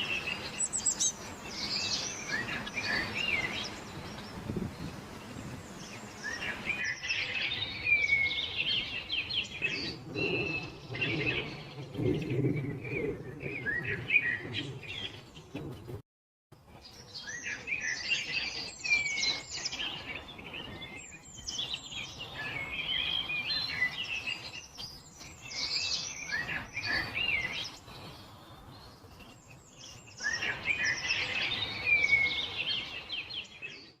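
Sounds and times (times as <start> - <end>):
songbirds singing: 0.0 - 16.0, 16.6 - 34.0.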